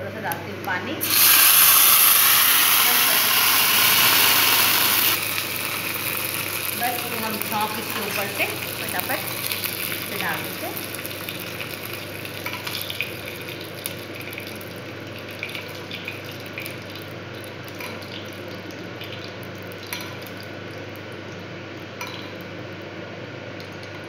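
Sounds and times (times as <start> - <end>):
background hiss and hum: 0.0 - 24.0.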